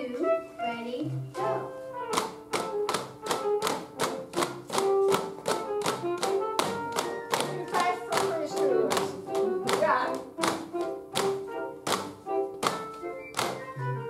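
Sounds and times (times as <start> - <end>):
steady tapping beat: 1.3 - 13.8.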